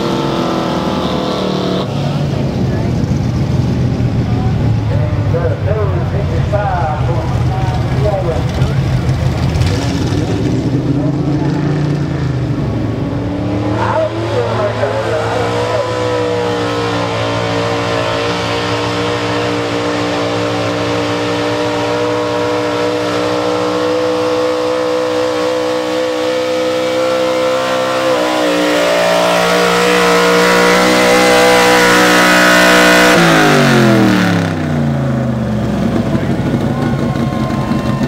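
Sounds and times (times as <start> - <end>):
truck engine at high revs: 0.0 - 38.0.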